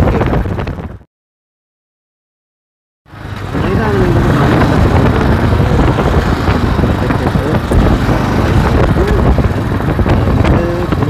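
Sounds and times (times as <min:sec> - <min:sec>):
low rumble of riding: 0:00.0 - 0:01.0, 0:03.1 - 0:11.0
wind buffeting microphone: 0:00.0 - 0:01.1, 0:03.2 - 0:11.0.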